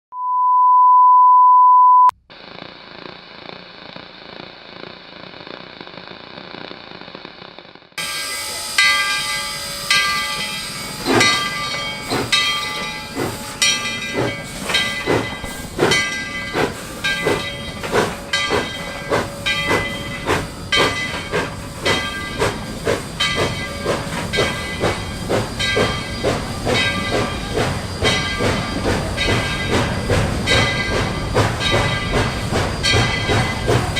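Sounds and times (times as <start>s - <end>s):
steam hissing: 2.3s - 33.9s
steam locomotive exhaust chuffs: 2.3s - 33.9s.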